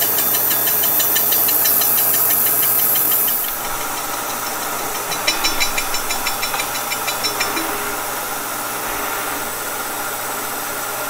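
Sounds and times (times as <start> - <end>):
rapid ticking of saw blade cutting: 0.0 - 9.0
milling machine running: 0.0 - 11.0.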